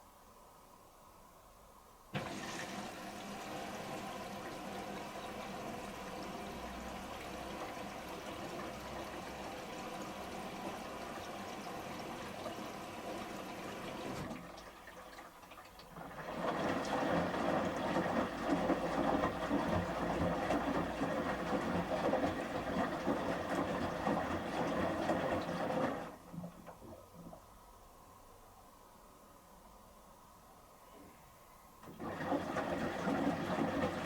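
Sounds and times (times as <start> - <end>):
water rushing into washing machine: 2.1 - 27.4, 31.8 - 34.0.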